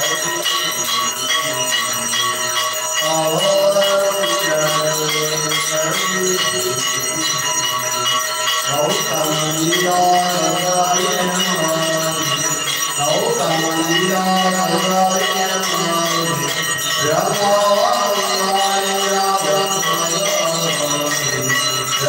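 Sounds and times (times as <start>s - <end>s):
devotional singing: 0.0s - 2.2s, 2.8s - 22.0s
temple bells ringing: 0.0s - 22.0s.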